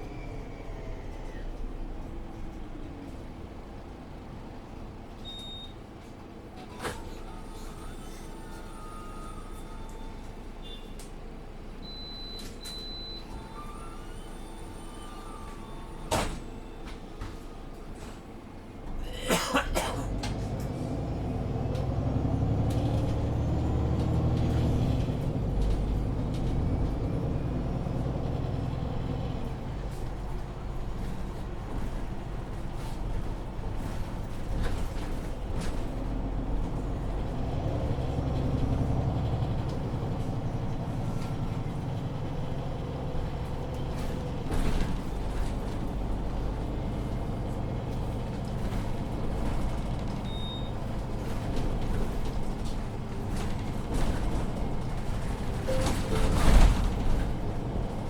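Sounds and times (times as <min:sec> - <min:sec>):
bus diesel engine pulling: 0:00.0 - 0:58.0.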